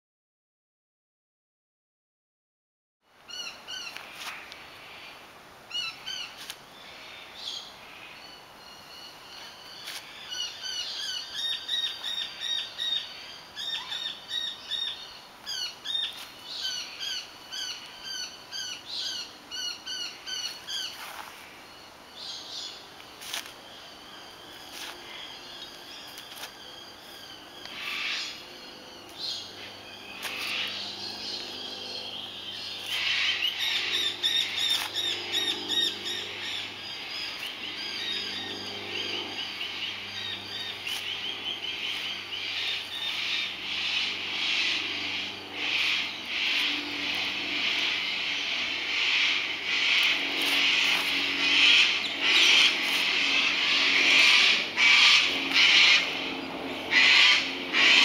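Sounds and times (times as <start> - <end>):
outdoor background noise: 3.0 - 58.0
songbirds chirping: 3.2 - 58.0.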